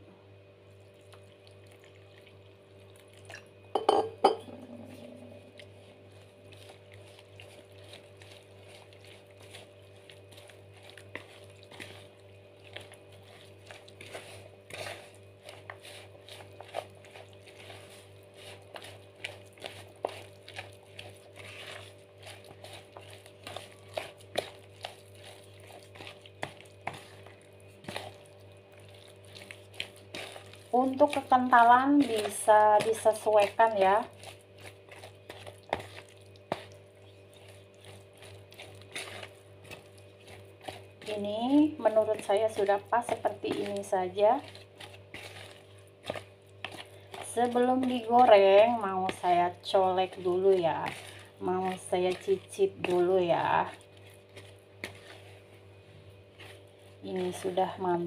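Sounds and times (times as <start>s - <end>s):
spoon scraping plastic bowl: 3.8s - 41.2s, 41.8s - 55.5s.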